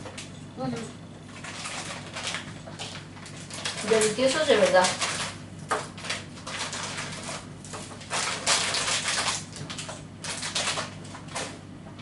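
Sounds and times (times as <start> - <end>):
wrapper crinkling: 1.3 - 11.6.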